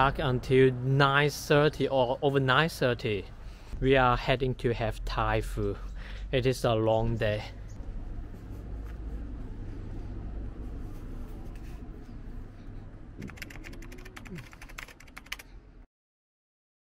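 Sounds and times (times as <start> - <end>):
street rumble: 0.0 - 15.8.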